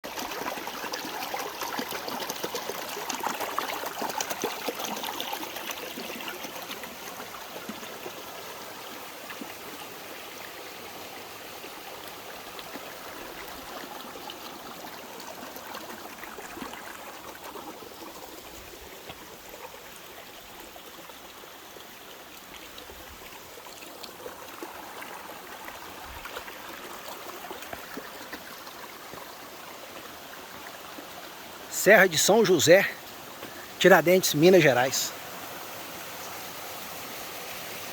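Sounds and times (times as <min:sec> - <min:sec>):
stream trickling: 0:00.0 - 0:37.9.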